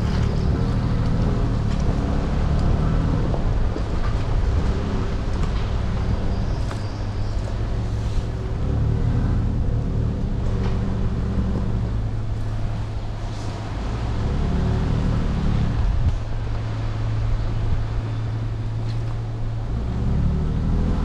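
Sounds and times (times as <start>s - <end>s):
truck engine drone in cab: 0.0s - 21.0s.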